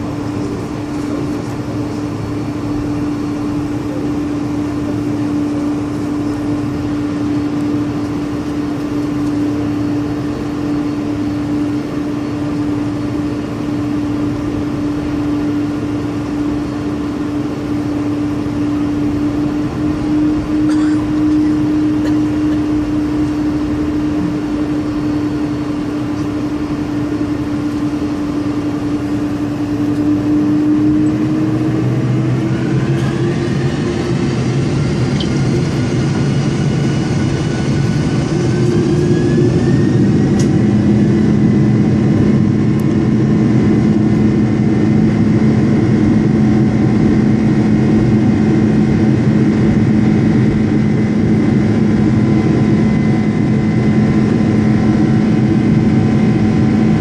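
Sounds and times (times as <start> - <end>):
jet engines from inside cabin: 0.0 - 57.0.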